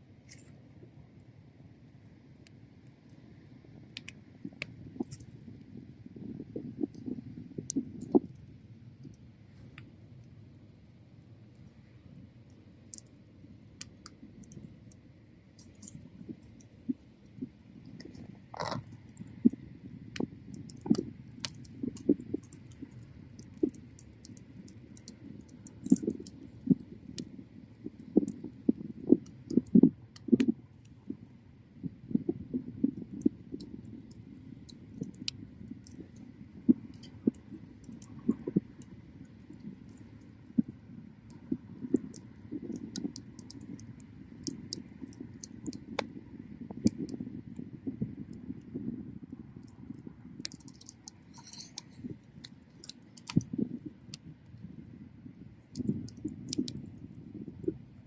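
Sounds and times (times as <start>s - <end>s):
bonfire crackling: 0.1s - 57.9s.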